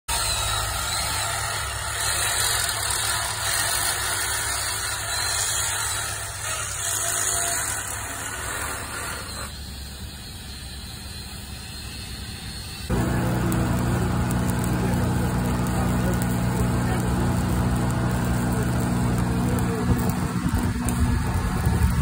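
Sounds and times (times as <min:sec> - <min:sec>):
power tool grinding metal: 0:00.1 - 0:09.6, 0:12.8 - 0:22.0.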